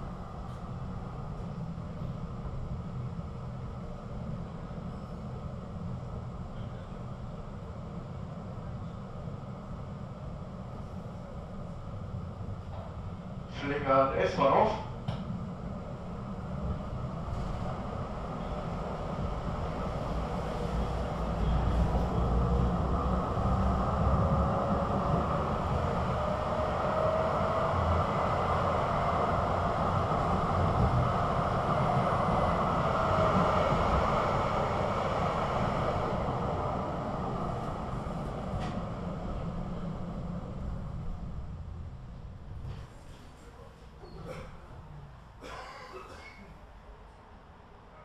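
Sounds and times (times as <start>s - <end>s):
tram wheels rumbling on rail: 0.0s - 47.8s.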